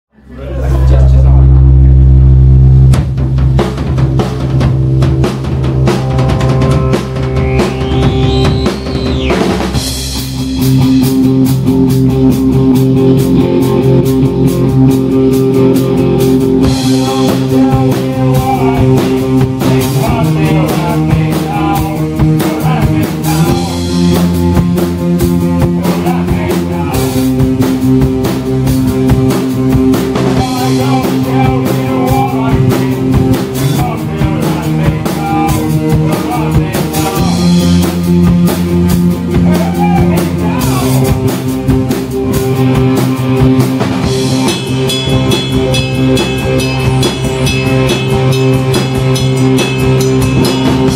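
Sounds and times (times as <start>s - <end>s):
live rock band playing: 0.2s - 50.9s.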